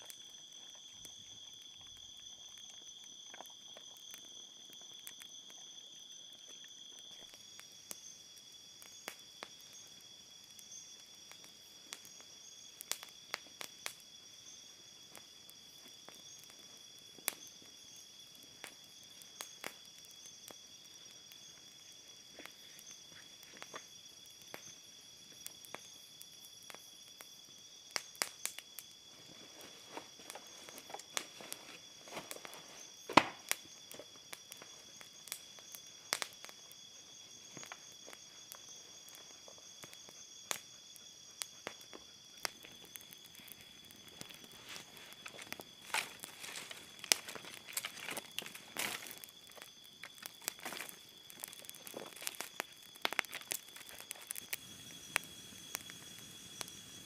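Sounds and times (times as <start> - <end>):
campfire crackling and popping: 0.0 - 57.0
night insects chorus: 0.0 - 57.0.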